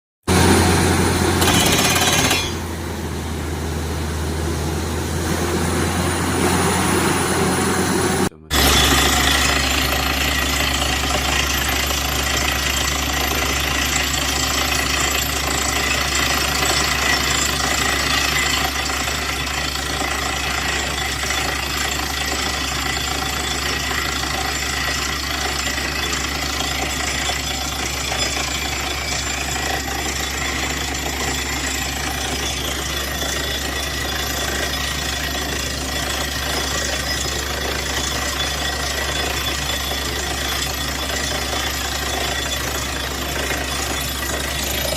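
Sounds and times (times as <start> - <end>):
drilling rig running: 0.3 - 44.9.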